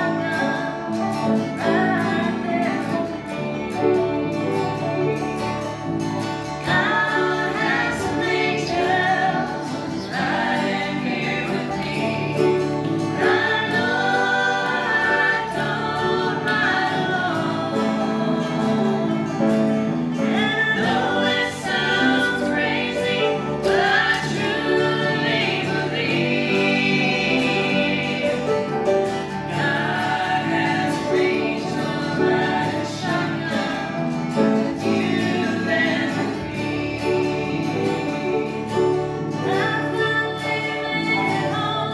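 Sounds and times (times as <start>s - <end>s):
group singing gospel in harmony: 0.0s - 41.9s
instrumental accompaniment: 0.0s - 41.9s.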